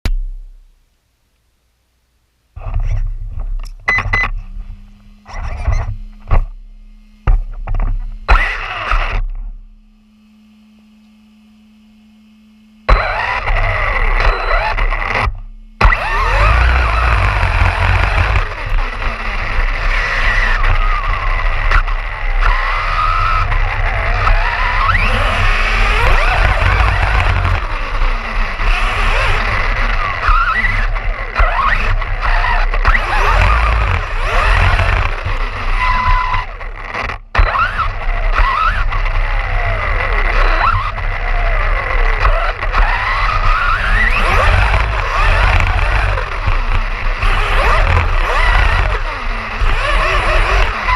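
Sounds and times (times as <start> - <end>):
electric motor whining: 2.6 - 50.9
rumble of tyres: 2.6 - 50.9.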